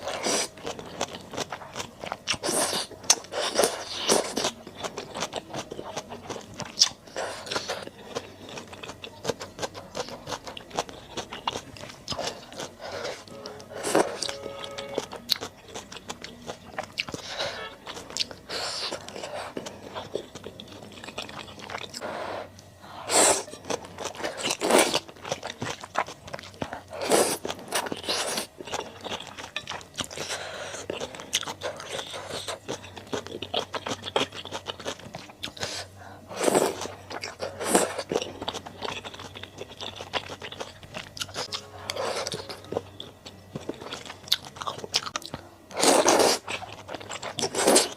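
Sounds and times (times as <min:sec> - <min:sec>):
chewing and crunching: 0:00.0 - 0:47.9.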